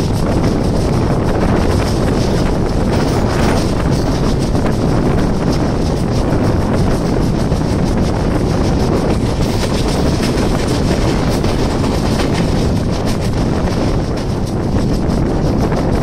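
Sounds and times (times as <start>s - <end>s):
train rumbling at speed: 0.0s - 16.0s
wheels clicking over rails: 0.0s - 16.0s.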